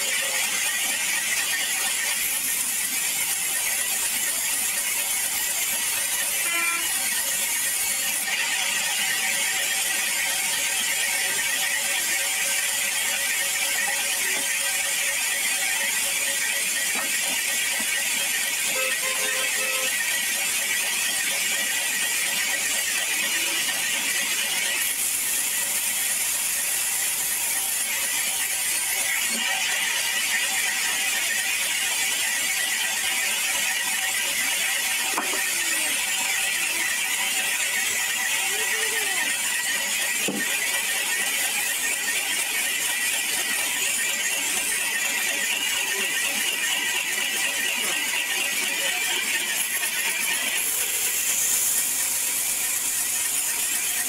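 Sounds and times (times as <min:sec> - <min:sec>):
band saw cutting wood: 0:00.0 - 0:54.0.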